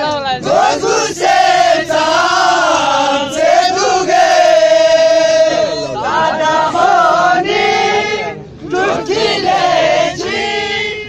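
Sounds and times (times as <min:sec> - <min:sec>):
men singing in unison: 0:00.4 - 0:11.0.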